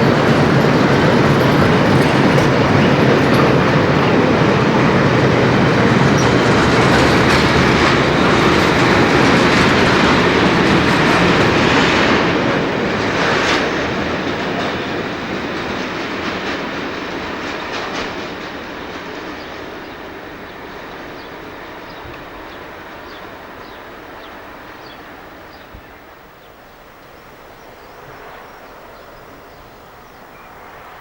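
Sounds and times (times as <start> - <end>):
train wheels clattering over rails: 0.0 - 25.9.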